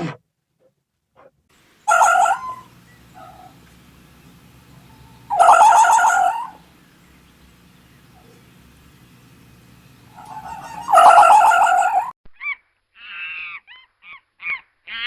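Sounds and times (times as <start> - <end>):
loud bird calls: 1.6 - 15.0.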